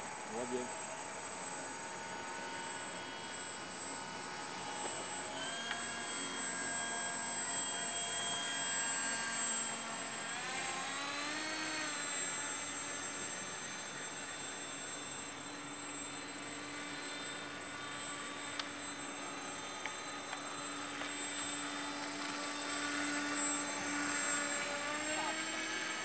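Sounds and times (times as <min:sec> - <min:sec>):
model boat motor whine: 0:00.0 - 0:26.0.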